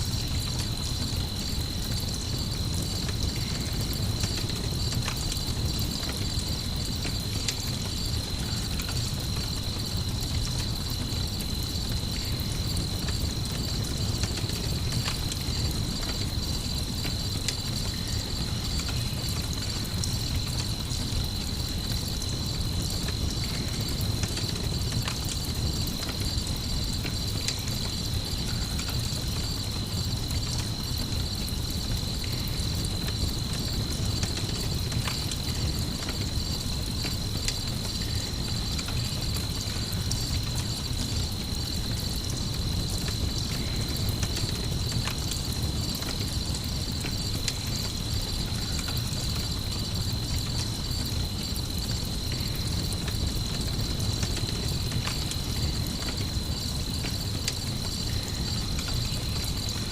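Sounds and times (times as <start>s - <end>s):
campfire burning and crackling: 0.0s - 59.9s
crickets chirping: 0.0s - 59.9s.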